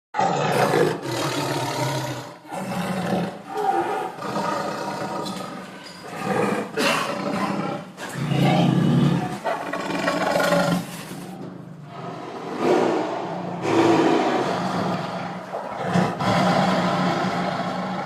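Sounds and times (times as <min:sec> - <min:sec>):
tiger roaring: 0:00.2 - 0:18.0.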